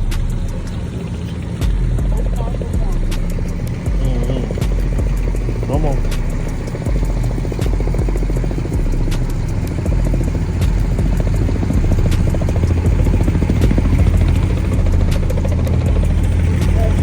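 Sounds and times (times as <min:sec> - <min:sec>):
loud engine running: 0:00.0 - 0:17.0.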